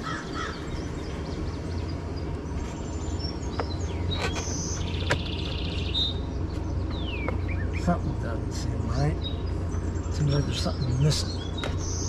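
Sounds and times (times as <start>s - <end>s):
low outdoor rumble: 0.0s - 12.0s
songbirds chirping: 0.0s - 12.0s.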